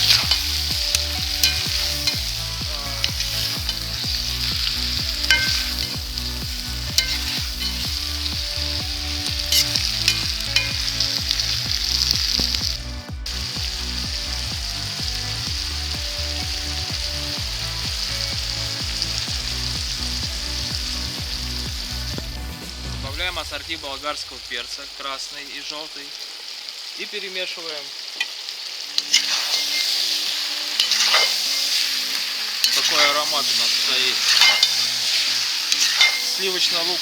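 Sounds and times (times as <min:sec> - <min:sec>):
chicken and onion sizzling in fat: 0:00.0 - 0:37.0.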